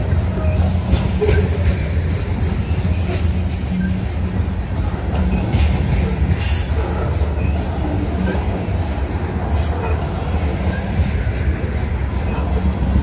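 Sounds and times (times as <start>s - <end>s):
train wheels rumbling on rail: 0.0s - 13.0s
wheels squealing: 0.0s - 13.0s.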